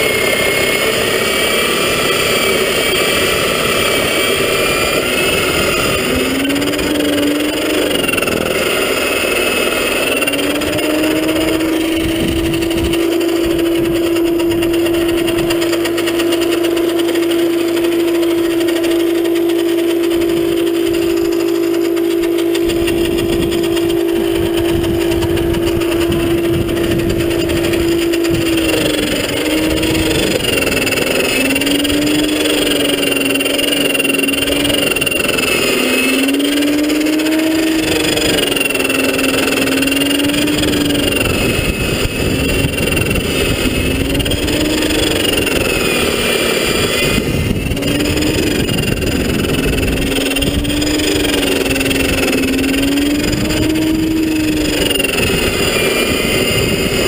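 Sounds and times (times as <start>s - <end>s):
snowblower motor whine: 0.0s - 57.0s.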